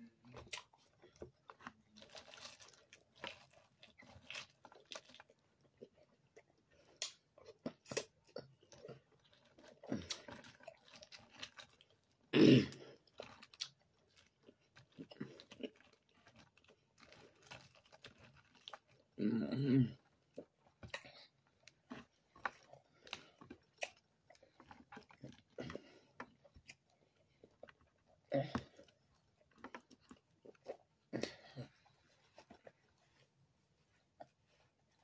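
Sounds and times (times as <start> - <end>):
chewing and lip smacking: 0.2 - 12.3, 12.9 - 19.2, 20.0 - 33.3.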